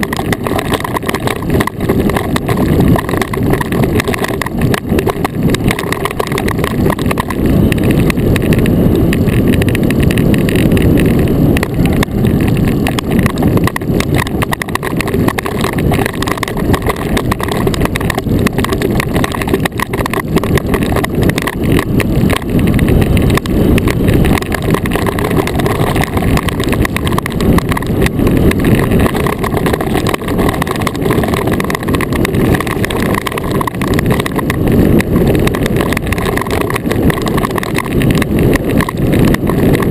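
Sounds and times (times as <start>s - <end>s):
steel runners rumbling over ice: 0.0s - 39.9s
wind on microphone: 0.0s - 39.9s.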